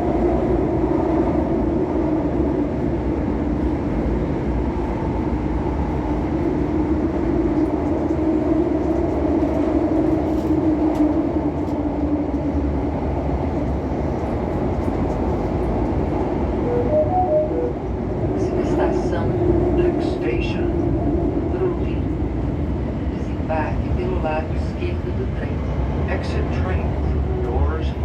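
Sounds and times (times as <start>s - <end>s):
metro train running: 0.0s - 28.0s.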